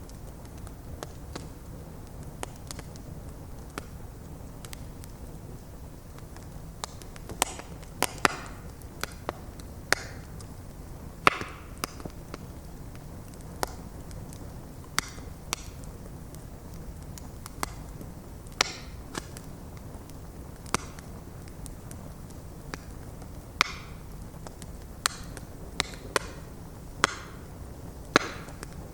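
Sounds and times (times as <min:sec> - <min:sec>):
low roar of fire: 0:00.0 - 0:28.9
wood crackling and popping: 0:00.0 - 0:28.9.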